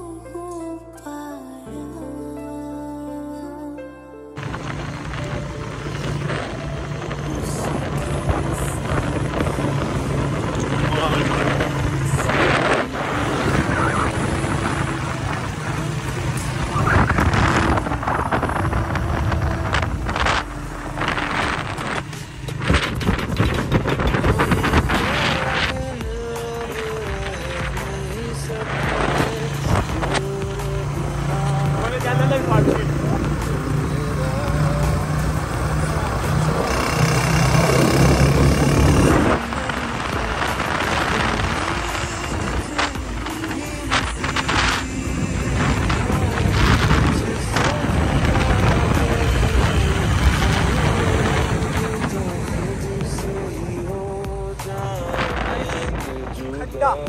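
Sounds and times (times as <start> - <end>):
motorcycle engines cruising: 4.4 - 57.0
wind buffeting microphone: 4.4 - 57.0.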